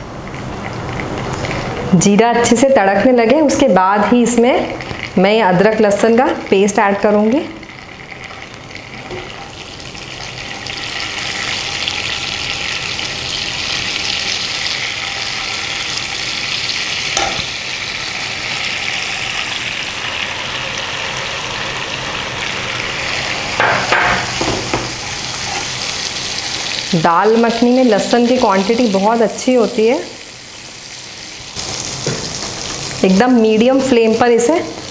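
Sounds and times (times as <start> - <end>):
paste sizzling in pan: 0.2 - 3.1, 3.9 - 34.9.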